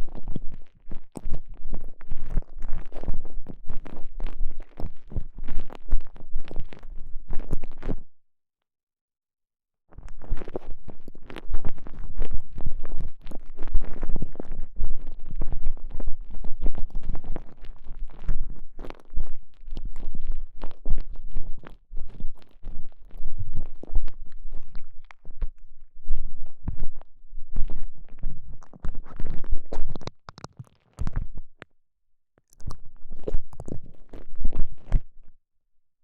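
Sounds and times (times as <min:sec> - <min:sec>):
crackling and rubbing of rubber sleeve: 0:00.0 - 0:08.1, 0:10.0 - 0:31.7, 0:32.4 - 0:35.4.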